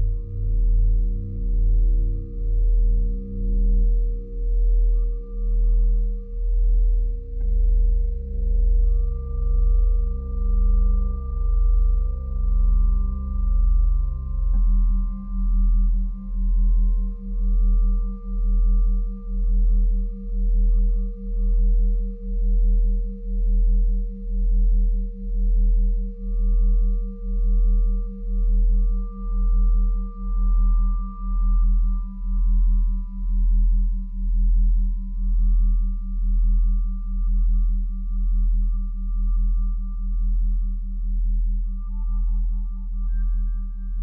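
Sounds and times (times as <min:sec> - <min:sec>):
deep throbbing drone hum: 0:00.0 - 0:44.0.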